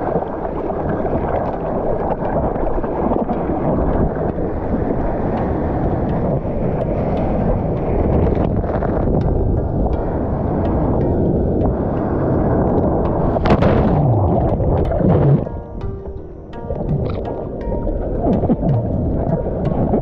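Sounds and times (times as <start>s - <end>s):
muffled rush of water and wind: 0.0s - 20.0s.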